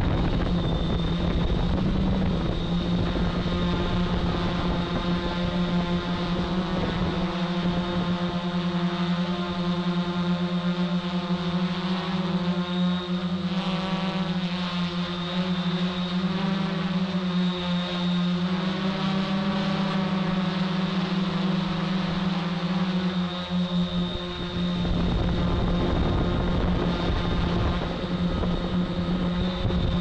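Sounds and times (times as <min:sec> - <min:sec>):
drone propellers droning: 0:00.0 - 0:30.0.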